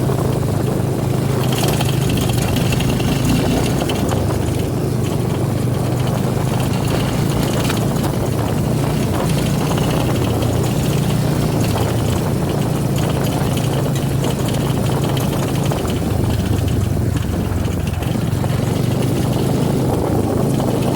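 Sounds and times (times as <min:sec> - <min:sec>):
motorcycle engine idling: 0:00.0 - 0:20.9
rattling noise: 0:00.1 - 0:20.9.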